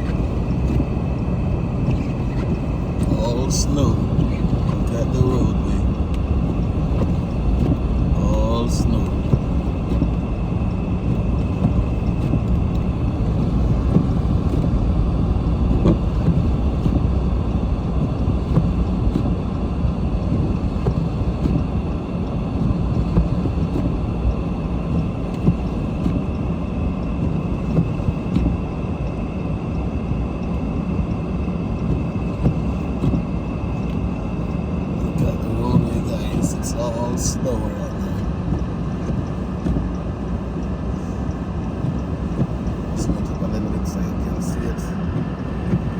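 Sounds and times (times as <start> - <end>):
car tyres and engine rumbling: 0.0 - 45.9.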